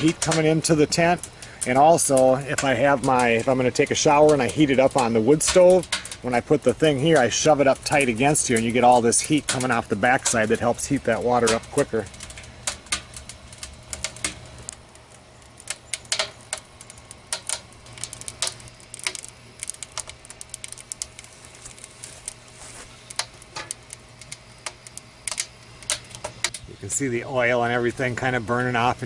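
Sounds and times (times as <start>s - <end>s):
wood fire crackling in stove: 0.0s - 29.0s.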